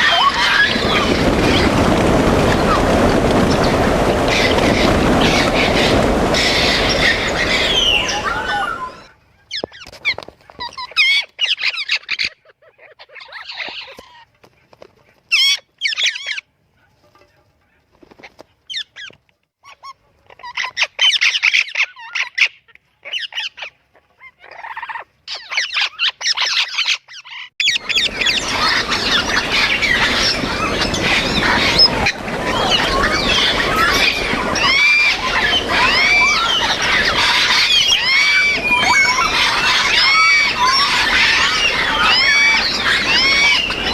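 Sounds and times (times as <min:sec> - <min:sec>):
parrots calling: 0:03.4 - 0:09.8, 0:10.6 - 0:14.3, 0:18.7 - 0:43.9.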